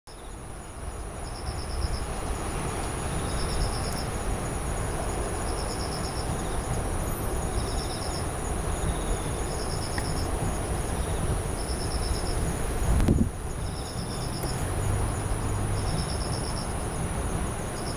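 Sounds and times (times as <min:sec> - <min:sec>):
insects trilling: 0:00.1 - 0:17.9
rapid-pulsed insect chirp: 0:00.1 - 0:17.9.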